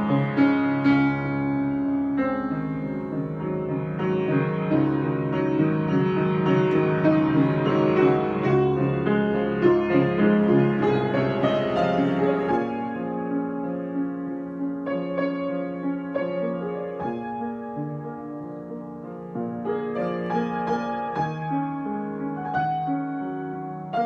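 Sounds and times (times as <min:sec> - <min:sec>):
improvised keyboard music: 0:00.0 - 0:24.0.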